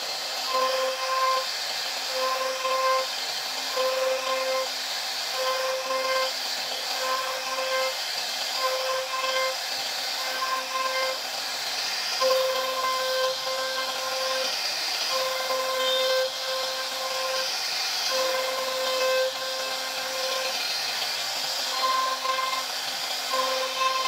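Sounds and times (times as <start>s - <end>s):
router cutting wood hiss: 0.0s - 24.0s
spindle high whine: 0.0s - 24.0s.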